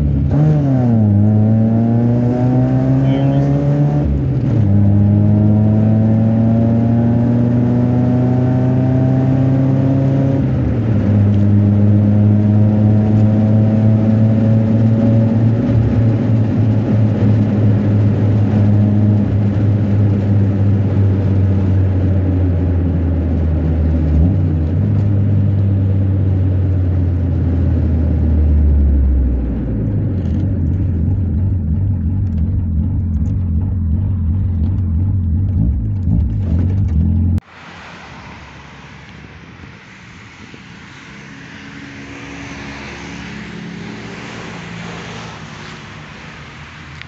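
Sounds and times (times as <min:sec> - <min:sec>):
car engine drone from cabin: 0:00.0 - 0:41.4.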